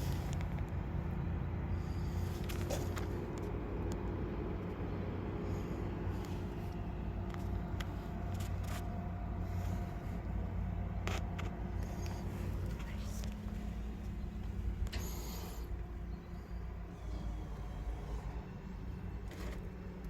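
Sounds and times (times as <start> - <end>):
engine idling hum: 0.0 - 20.0.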